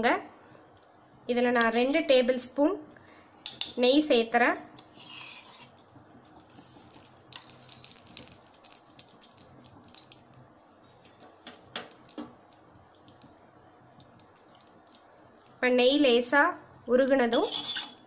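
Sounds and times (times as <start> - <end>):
ghee sizzling with crackles: 0.5 - 18.0.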